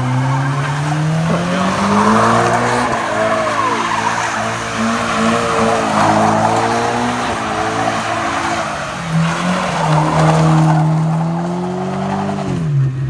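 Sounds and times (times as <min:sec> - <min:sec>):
car engine revving high: 0:00.0 - 0:13.0
tyres squealing: 0:00.2 - 0:12.3.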